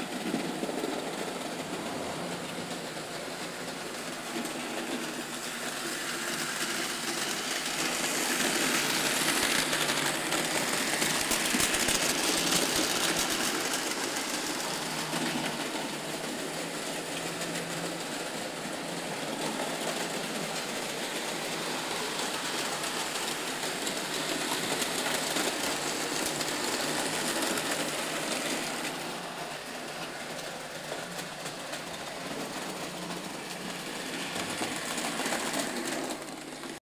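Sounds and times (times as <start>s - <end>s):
wheels rattling over track: 0.0s - 36.8s.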